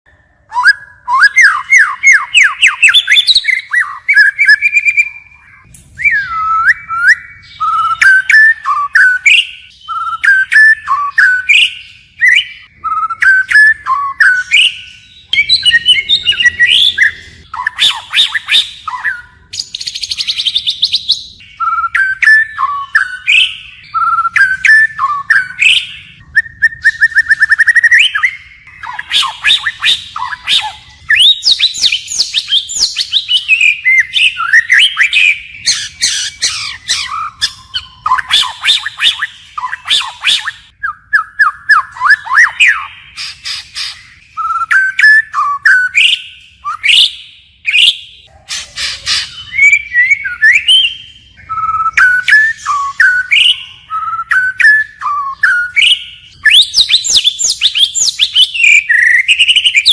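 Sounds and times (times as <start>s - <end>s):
bird singing varied song: 0.1s - 59.9s.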